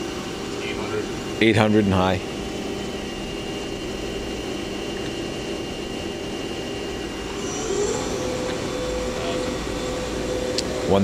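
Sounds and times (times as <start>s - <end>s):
lathe spindle mechanical hum: 0.0s - 11.0s.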